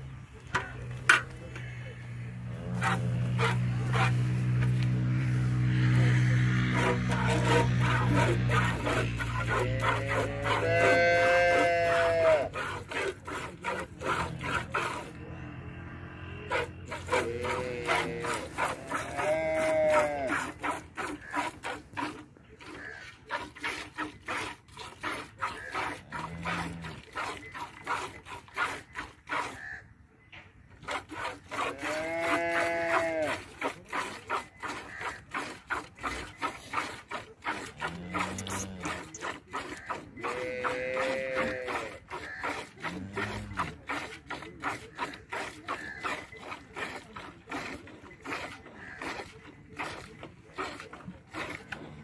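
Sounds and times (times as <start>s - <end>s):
cattle mooing: 1.1s - 23.0s, 25.0s - 28.0s, 31.5s - 33.7s, 34.6s - 50.0s.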